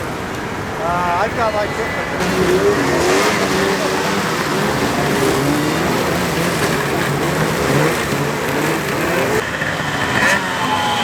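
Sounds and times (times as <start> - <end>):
wind and road noise: 0.0 - 11.0
car engine revving: 1.8 - 11.0.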